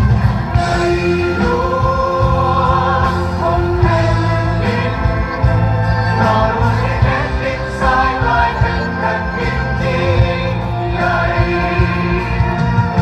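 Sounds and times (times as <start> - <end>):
steady bass line: 0.0 - 13.0.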